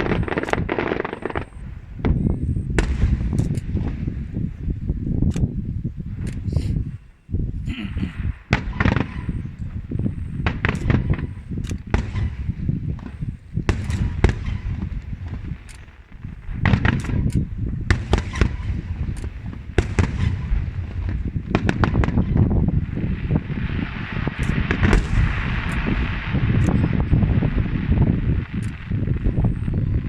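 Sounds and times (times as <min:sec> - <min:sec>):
firework shells bursting: 0:00.0 - 0:07.0, 0:08.2 - 0:29.9
continuous low rumble: 0:00.0 - 0:30.0.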